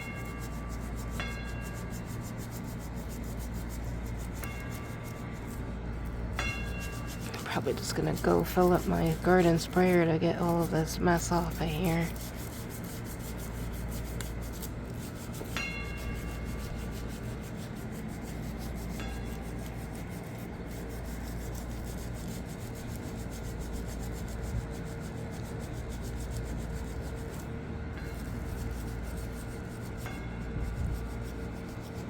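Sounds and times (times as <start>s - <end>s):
scrubbing back and forth: 0.0s - 32.0s.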